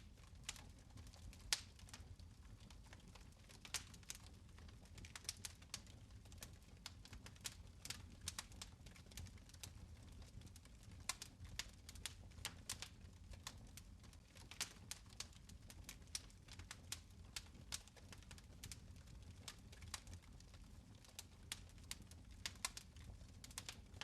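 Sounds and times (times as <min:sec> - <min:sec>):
fire crackling: 0:00.0 - 0:24.0.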